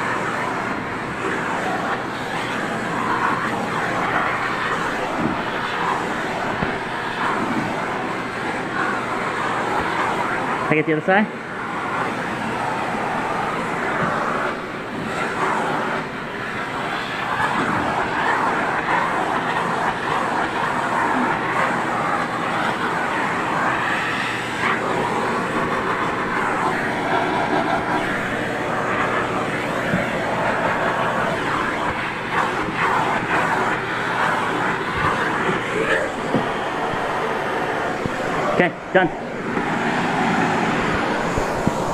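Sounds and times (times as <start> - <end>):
vacuum cleaner suction: 0.0 - 41.9.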